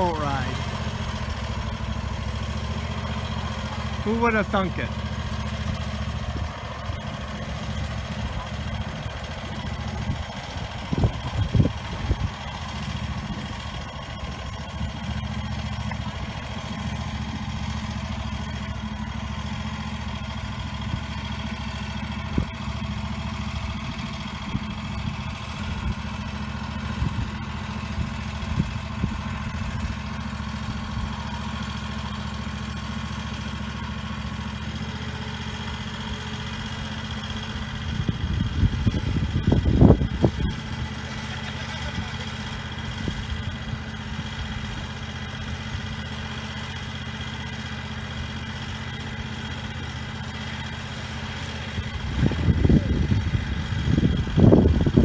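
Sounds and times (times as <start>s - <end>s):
boat launcher engine running: 0.0s - 55.0s.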